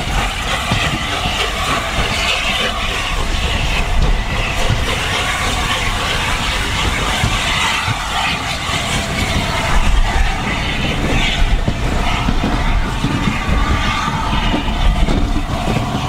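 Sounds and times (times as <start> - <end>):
steam train running: 0.0 - 16.0.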